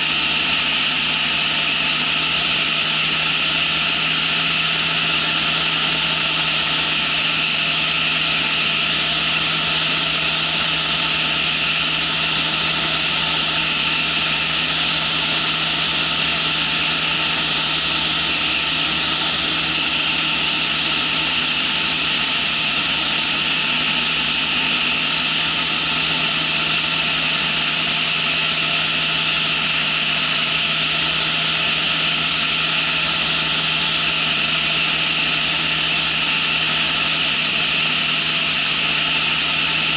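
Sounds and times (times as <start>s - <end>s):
engine and propeller drone: 0.0s - 39.9s.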